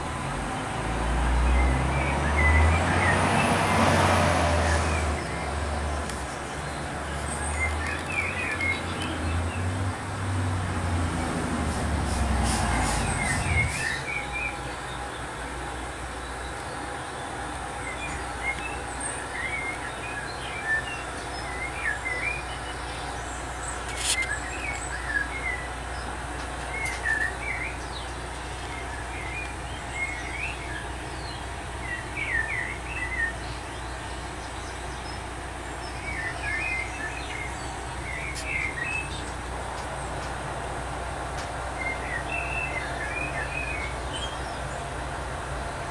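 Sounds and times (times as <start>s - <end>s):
small birds twittering: 0.5s - 40.4s, 41.4s - 44.9s.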